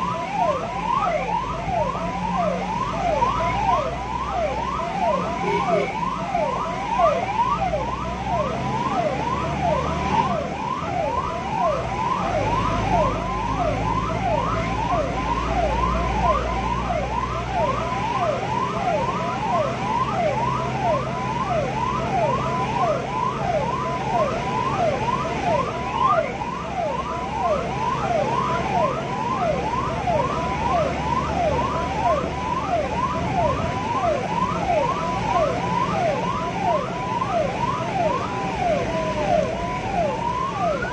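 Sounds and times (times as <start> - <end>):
ambulance siren yelping: 0.0 - 40.9
engine and road rumble: 0.0 - 40.9.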